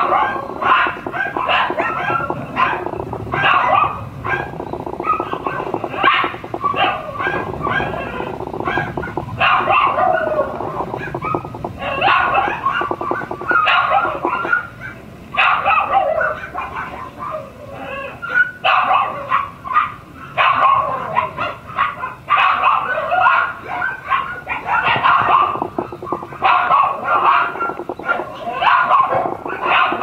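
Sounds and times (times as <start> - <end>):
puppies barking and yipping: 0.0 - 17.4, 18.2 - 30.0.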